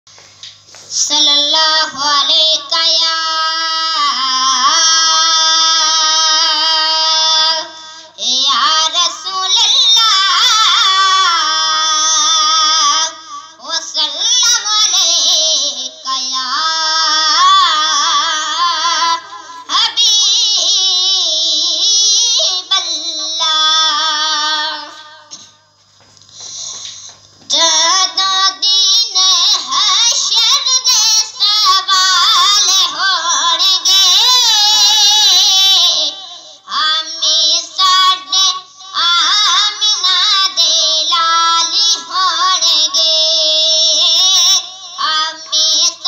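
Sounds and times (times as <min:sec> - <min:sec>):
boy singing devotional song: 0:00.1 - 0:46.0.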